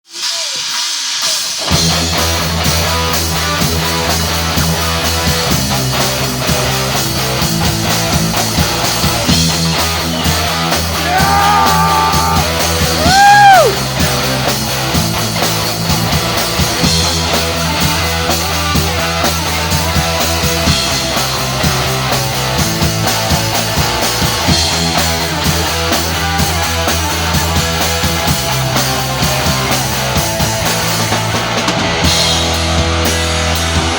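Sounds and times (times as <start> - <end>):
punk rock band playing: 0.1 - 33.9.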